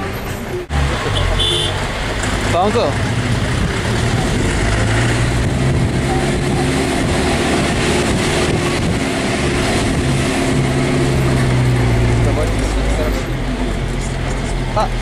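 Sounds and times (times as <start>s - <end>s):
rushing background noise: 0.0s - 15.0s
engine droning: 0.7s - 15.0s.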